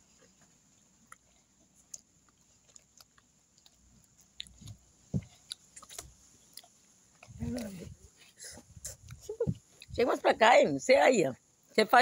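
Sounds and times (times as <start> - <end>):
people chewing food: 0.0 - 10.3.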